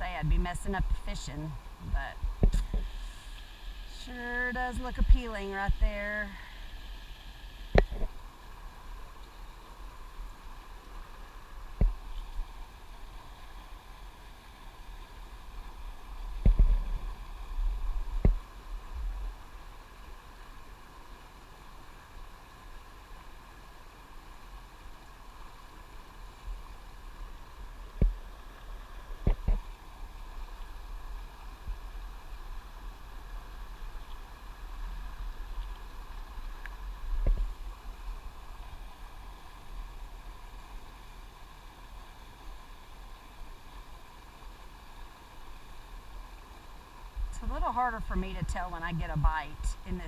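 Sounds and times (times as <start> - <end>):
river water rushing: 0.6 - 47.2.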